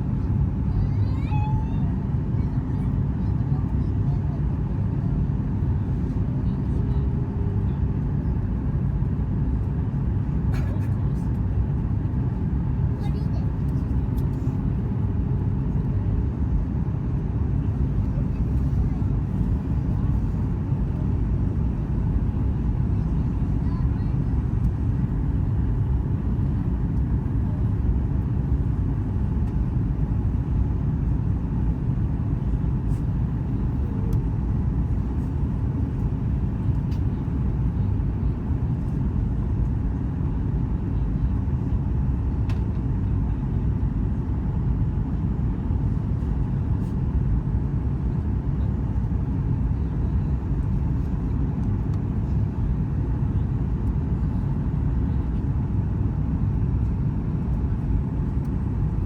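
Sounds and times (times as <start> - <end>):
airplane cabin rumble: 0.0 - 59.0
jet engines: 0.0 - 59.0.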